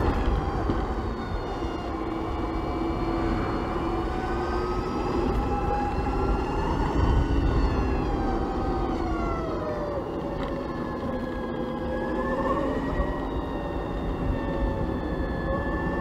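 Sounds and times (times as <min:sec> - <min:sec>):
electric scooter motor whining: 0:00.0 - 0:16.0
wind rumble on microphone: 0:00.0 - 0:16.0.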